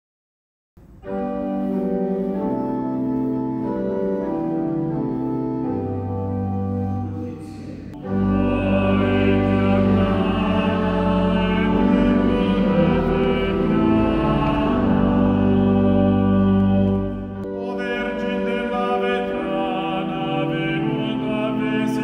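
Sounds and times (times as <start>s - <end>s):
pipe organ playing chords: 0.8s - 22.0s.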